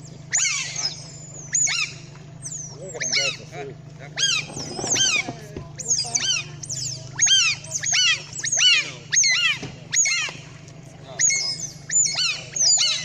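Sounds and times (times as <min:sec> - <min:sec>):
low hum: 0:00.0 - 0:13.0
otters chirping: 0:00.0 - 0:13.0.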